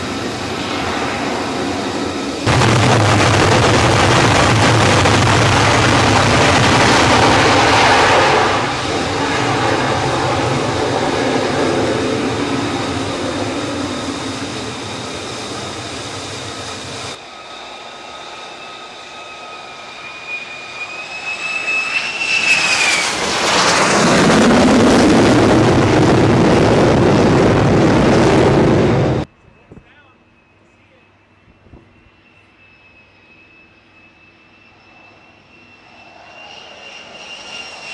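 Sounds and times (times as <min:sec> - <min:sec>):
high jet whine: 0:00.0 - 0:37.9
jet engine roar: 0:00.0 - 0:37.9.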